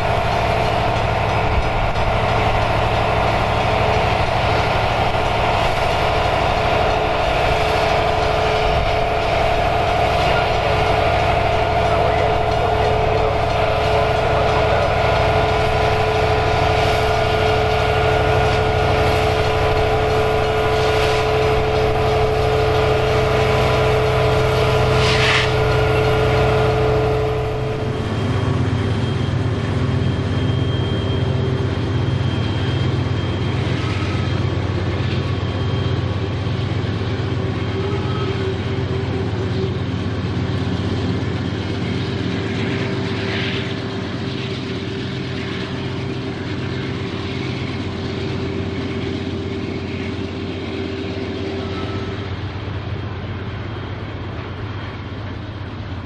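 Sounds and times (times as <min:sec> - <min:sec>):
freight train rumbling: 0:00.0 - 0:56.0
train wheel clatter: 0:00.0 - 0:56.0.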